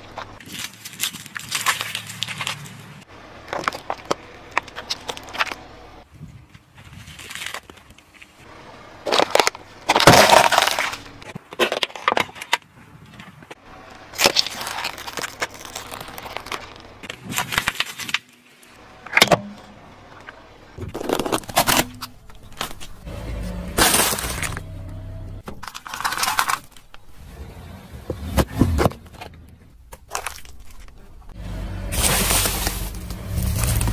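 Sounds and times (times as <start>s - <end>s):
sharp crunching and cracking: 0.0s - 5.8s, 6.4s - 19.3s, 20.8s - 23.1s, 23.7s - 24.8s, 25.4s - 27.2s, 28.9s - 33.9s
car tyre crushing brittle objects: 0.0s - 33.9s
low tyre rumble: 1.1s - 17.7s, 18.6s - 33.9s.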